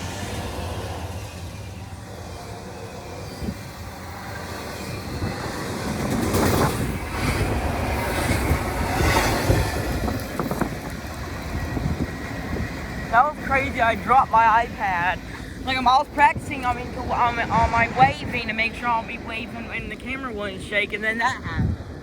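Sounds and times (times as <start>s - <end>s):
train rumbling over rails: 0.0s - 22.0s.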